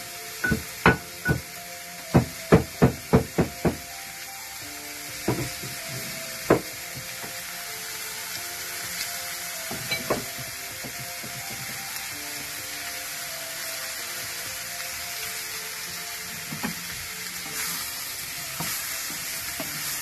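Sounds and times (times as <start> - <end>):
curry sizzling in a saucepan: 0.0 - 20.0
soft background music: 0.0 - 20.0.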